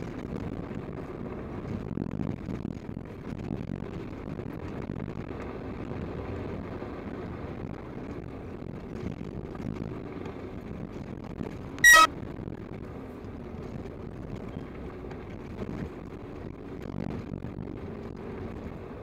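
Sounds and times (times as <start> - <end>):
engine and tyre rumble on gravel: 0.0 - 19.0.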